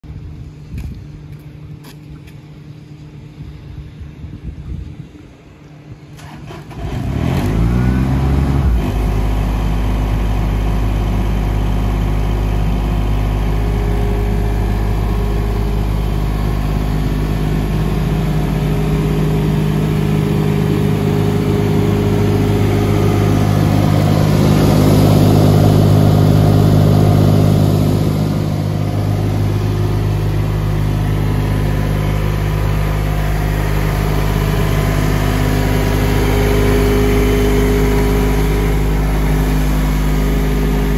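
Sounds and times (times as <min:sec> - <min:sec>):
diesel engine running: 0:05.9 - 0:40.9
diesel engine cranking: 0:06.1 - 0:40.9.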